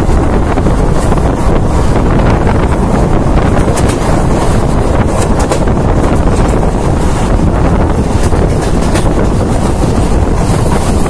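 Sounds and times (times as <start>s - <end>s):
train rumbling along the track: 0.0s - 11.0s
wind buffeting the microphone: 0.0s - 11.0s.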